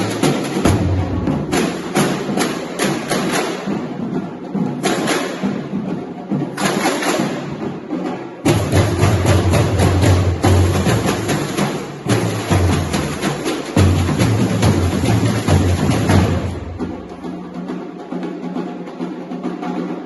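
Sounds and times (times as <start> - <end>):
percussion groove: 0.0 - 20.0.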